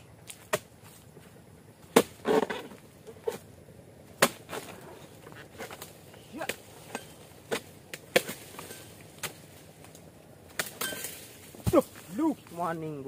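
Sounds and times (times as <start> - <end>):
blade chopping palm fronds: 0.3 - 0.9, 1.8 - 3.4, 4.0 - 12.4.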